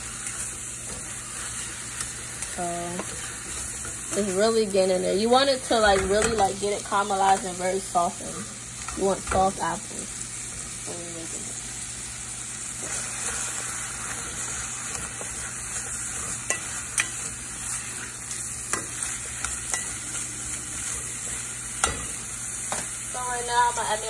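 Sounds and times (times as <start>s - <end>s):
apple slices sizzling in butter: 0.0s - 24.0s.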